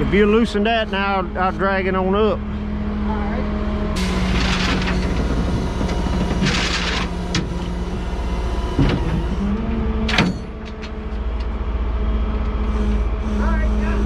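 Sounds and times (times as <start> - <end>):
truck engine running: 0.0 - 14.0
winch dragging forklift: 0.0 - 14.0.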